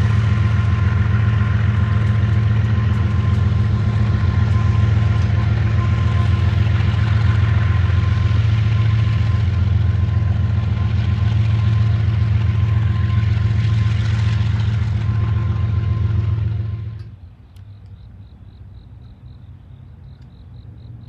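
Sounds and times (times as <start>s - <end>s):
heavy engine idling: 0.0s - 21.0s.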